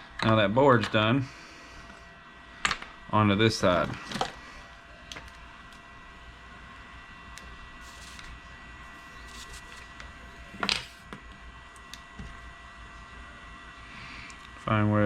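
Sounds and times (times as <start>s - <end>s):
faint high whine: 0.0s - 15.0s
steady low hum: 0.0s - 15.0s.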